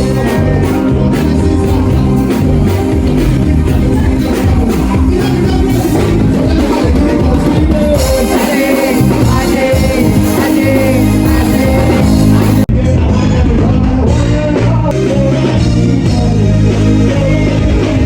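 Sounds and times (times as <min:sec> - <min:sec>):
background music with bass line: 0:00.0 - 0:18.0
person singing: 0:00.0 - 0:18.0.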